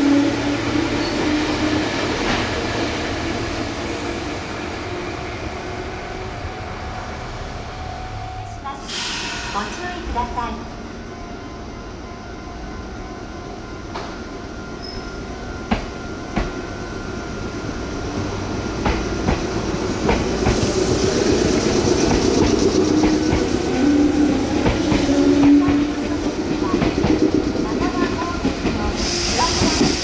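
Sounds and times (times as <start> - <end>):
train approaching at speed: 0.0 - 30.0.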